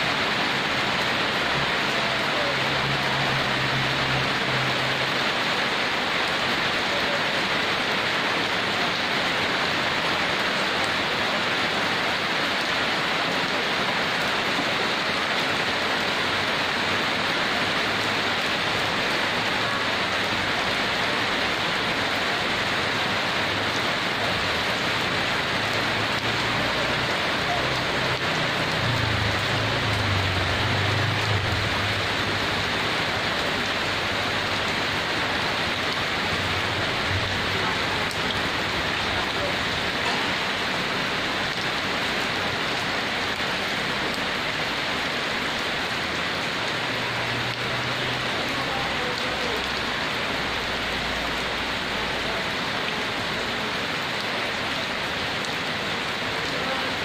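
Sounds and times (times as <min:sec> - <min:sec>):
heavy rain on leaves: 0:00.0 - 0:57.0.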